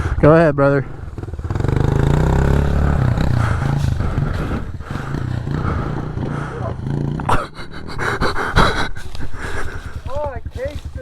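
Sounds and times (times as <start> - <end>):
pit bike engine revving: 0.0 - 11.0.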